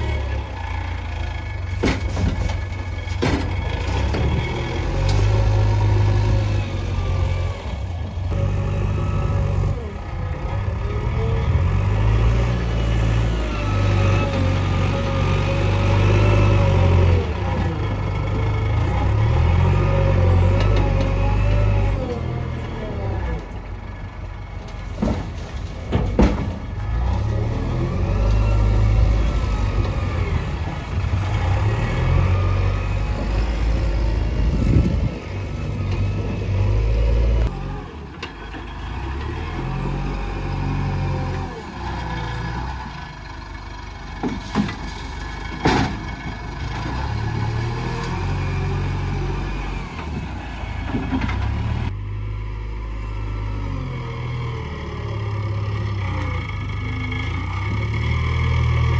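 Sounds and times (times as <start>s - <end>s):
diesel engine revving: 0.0s - 58.9s.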